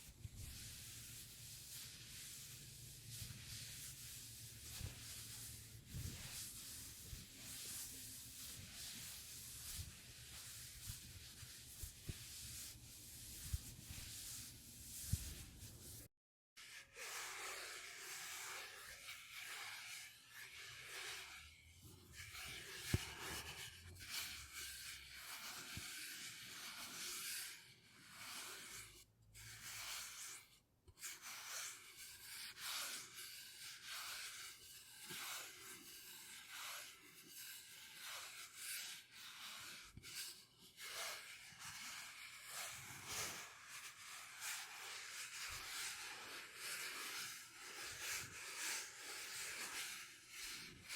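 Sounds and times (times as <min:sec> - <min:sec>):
soft rubbing strokes: 0:00.0 - 0:16.1, 0:16.7 - 0:50.9.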